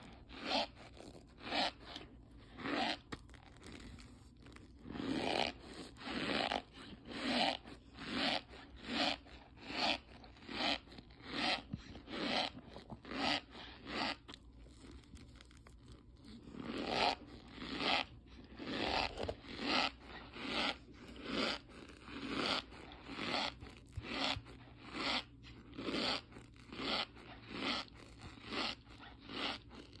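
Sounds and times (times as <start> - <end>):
cornstarch crunching in hand: 0.0 - 30.0.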